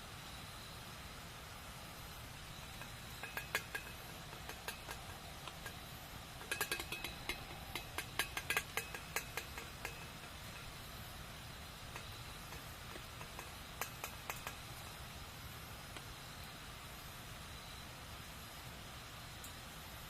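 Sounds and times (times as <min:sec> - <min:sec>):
campfire crackling: 0:00.0 - 0:20.0
low hiss of fire: 0:00.0 - 0:20.0.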